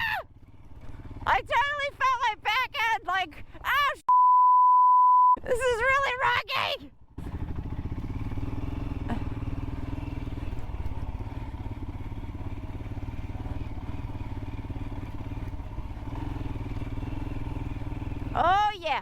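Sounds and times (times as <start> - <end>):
motorcycle engine running: 0.0 - 3.2, 5.8 - 19.0.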